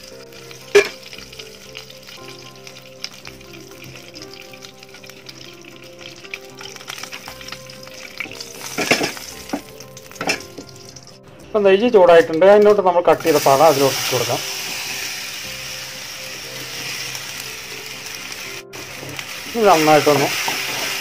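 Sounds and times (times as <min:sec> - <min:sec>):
fat sizzling in a pan: 0:00.0 - 0:21.0.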